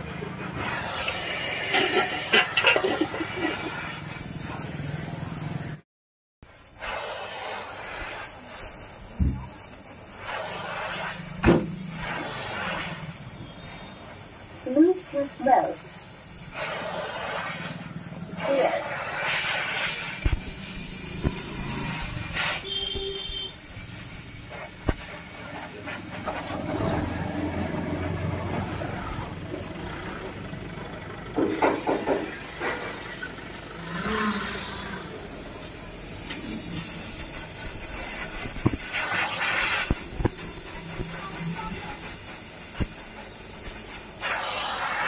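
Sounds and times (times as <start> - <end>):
welding torch flame hissing: 0.0 - 5.8, 6.4 - 30.0, 31.6 - 45.0.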